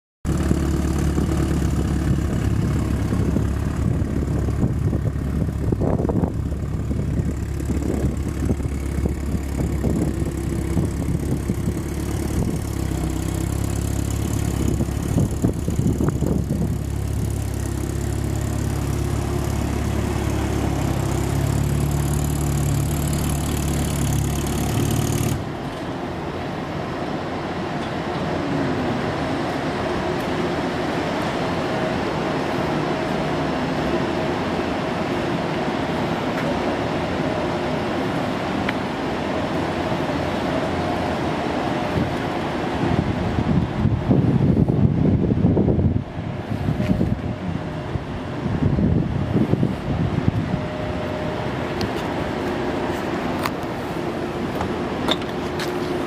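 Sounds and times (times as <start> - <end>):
car engine idling: 0.3 - 56.0.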